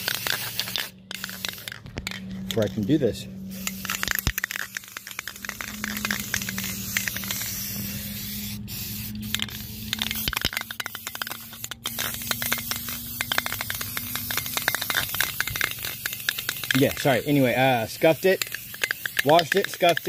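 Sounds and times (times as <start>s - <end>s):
aerosol spray can hissing: 0.0s - 1.8s, 3.5s - 20.0s
steady low hum: 0.0s - 20.0s.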